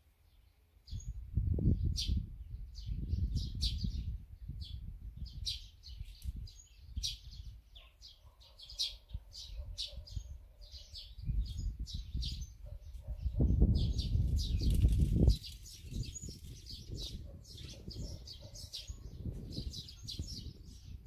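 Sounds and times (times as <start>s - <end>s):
small birds chirping: 0.2s - 21.0s.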